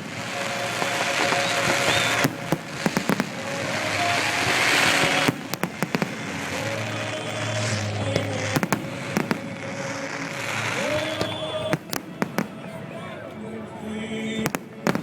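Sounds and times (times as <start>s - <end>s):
steady rushing noise: 0.0s - 12.8s
fireworks bangs: 0.0s - 13.4s, 14.1s - 15.0s.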